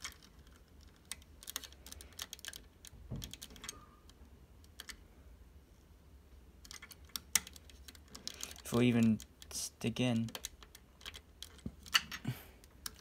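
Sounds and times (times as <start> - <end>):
plastic puzzle pieces clicking: 0.0 - 5.0, 6.6 - 9.6, 10.2 - 13.0.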